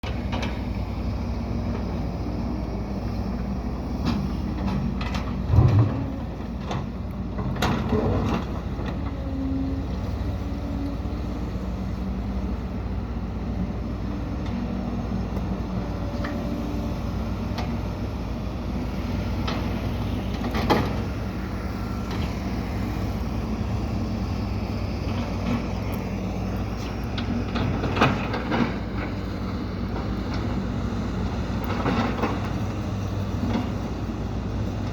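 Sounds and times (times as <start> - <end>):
heavy machine diesel engines: 0.0 - 34.9.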